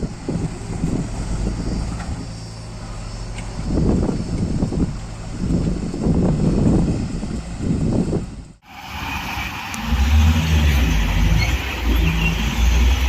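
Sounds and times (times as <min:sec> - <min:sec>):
diesel engine running: 0:00.0 - 0:13.0
wind noise on microphone: 0:00.0 - 0:13.0.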